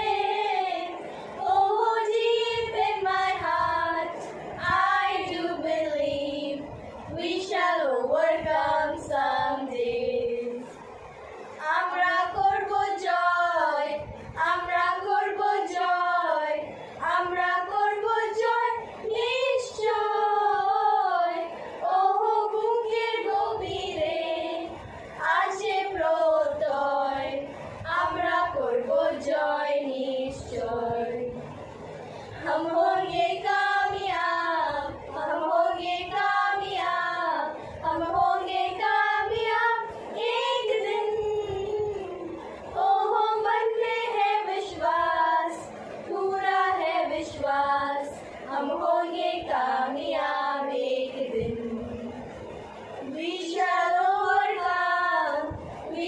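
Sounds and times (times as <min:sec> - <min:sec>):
girls singing without instruments: 0:00.0 - 0:56.0.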